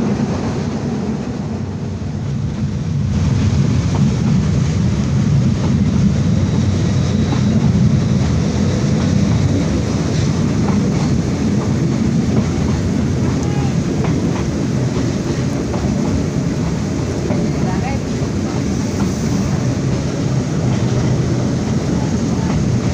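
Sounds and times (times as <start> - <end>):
train rumbling on track: 0.0 - 22.9.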